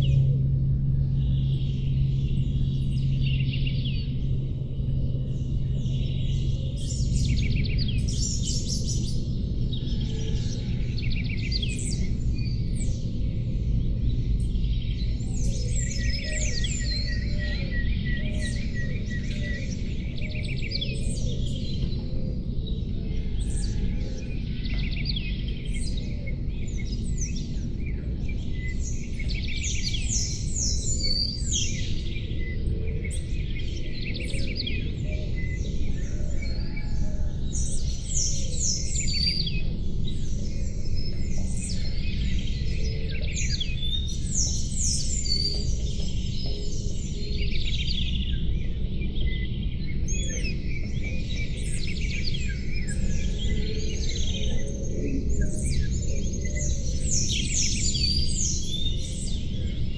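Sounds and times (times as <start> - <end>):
low background rumble: 0.0 - 59.9
songbirds singing and calling: 0.0 - 59.9.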